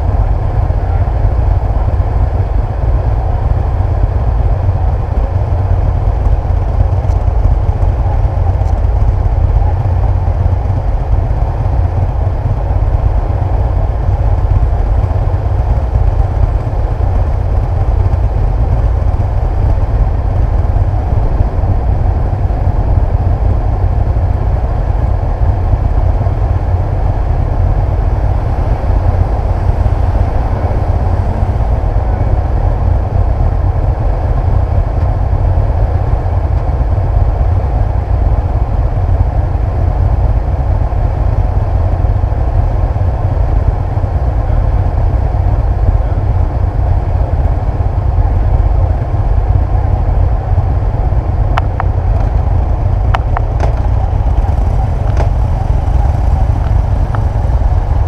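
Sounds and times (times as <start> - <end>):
motorcycle engine running: 0.0 - 58.0
road noise: 0.0 - 58.0
wind buffeting microphone: 0.0 - 58.0.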